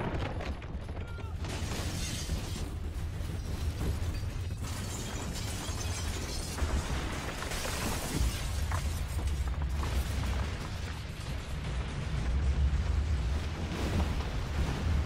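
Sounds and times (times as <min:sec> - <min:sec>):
deep earthquake rumble: 0:00.0 - 0:15.0.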